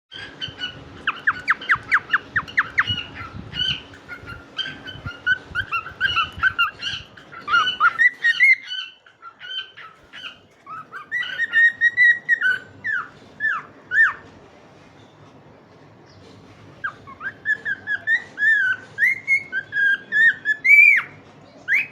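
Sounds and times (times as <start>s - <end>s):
cockatiels chirping: 0.1s - 14.3s, 16.8s - 21.9s.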